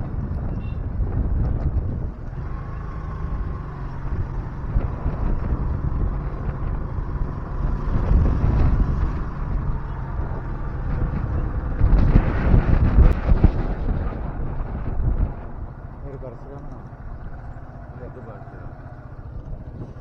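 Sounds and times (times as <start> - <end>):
motorbike engine running: 0.0 - 20.0
wind buffeting microphone: 0.0 - 20.0.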